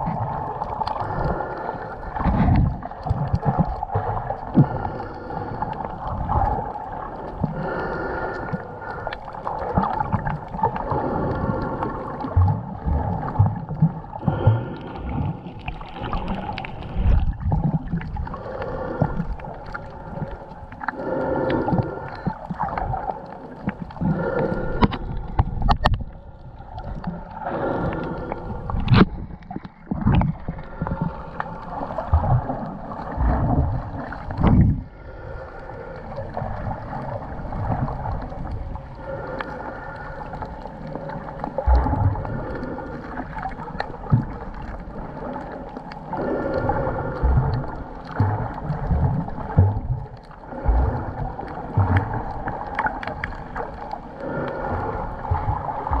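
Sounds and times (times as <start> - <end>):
muffled underwater water movement: 0.0 - 56.0.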